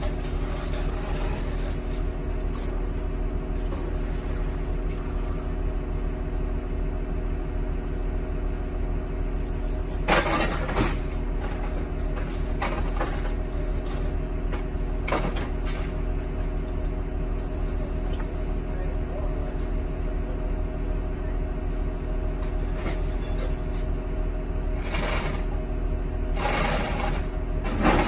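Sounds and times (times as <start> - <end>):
heavy engine idling: 0.0 - 28.0.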